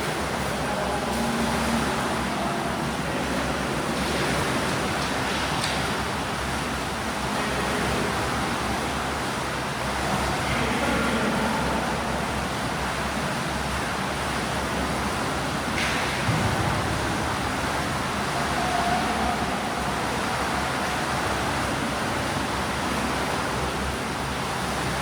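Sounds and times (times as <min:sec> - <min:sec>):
pool water splashing: 0:00.0 - 0:25.0.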